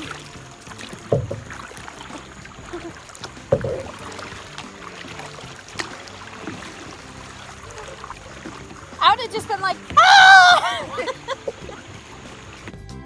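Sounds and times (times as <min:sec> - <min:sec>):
water wash: 0:00.0 - 0:12.8
paddle in water: 0:00.0 - 0:13.0.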